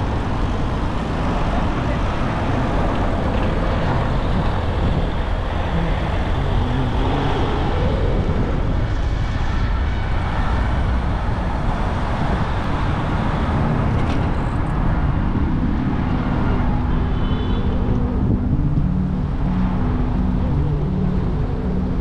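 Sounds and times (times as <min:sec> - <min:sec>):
city traffic noise: 0:00.0 - 0:22.0
wind buffeting microphone: 0:00.0 - 0:22.0.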